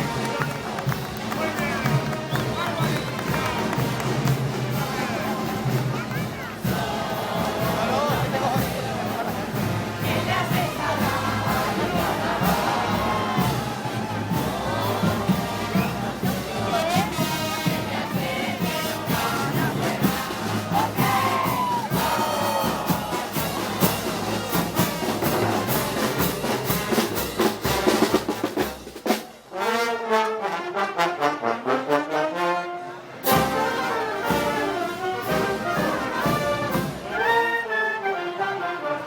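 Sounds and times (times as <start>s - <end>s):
drums and cymbals: 0.0s - 29.6s, 33.2s - 37.2s
brass band playing march: 0.0s - 39.0s.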